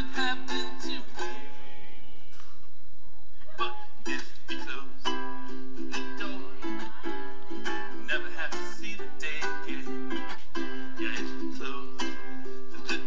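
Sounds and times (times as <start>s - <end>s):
ukulele strumming and plucking: 0.0s - 2.0s, 3.6s - 13.0s.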